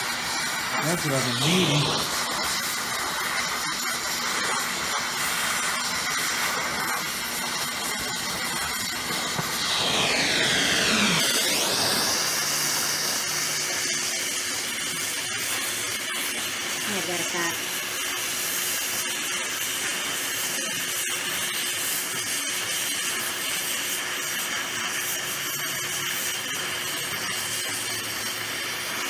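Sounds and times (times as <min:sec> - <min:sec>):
torch hissing: 0:00.0 - 0:29.0.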